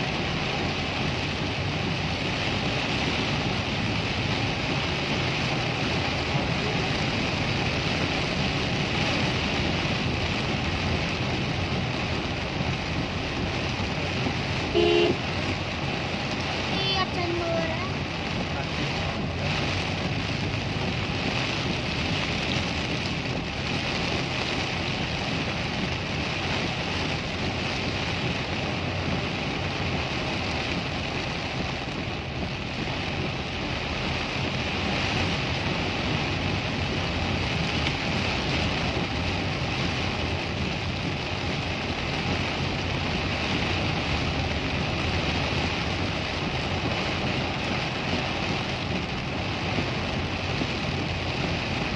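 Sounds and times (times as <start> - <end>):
car running and road noise: 0.0 - 51.9
heavy rain on car roof: 0.0 - 51.9.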